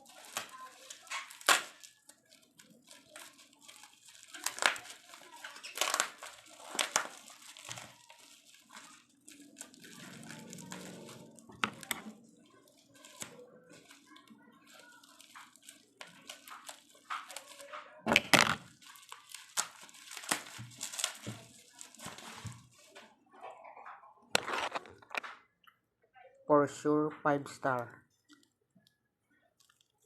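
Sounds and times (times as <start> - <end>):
wrapping crinkling and tearing: 0.0 - 23.2, 24.4 - 25.2, 29.5 - 30.0.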